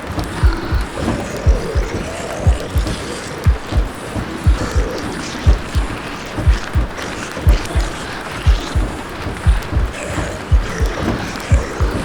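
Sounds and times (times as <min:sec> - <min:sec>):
steady hiss: 0:00.0 - 0:12.0
heartbeat thumping: 0:00.1 - 0:12.0.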